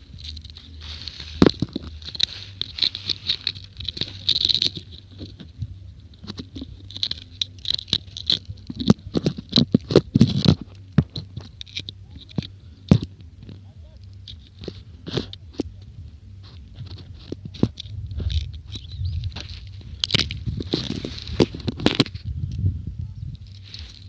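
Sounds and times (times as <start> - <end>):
gulls pecking and tearing food: 0.0 - 24.0.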